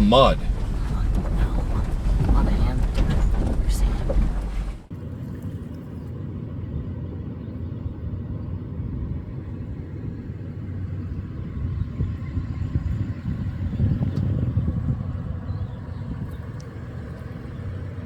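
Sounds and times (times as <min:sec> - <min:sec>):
vehicle engine and tyres rumbling: 0:00.0 - 0:18.0.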